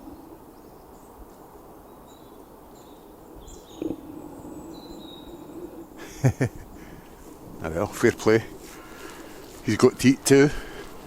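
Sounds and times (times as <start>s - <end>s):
faint bird chirps: 0.0s - 10.9s
steady low hum: 0.0s - 11.0s.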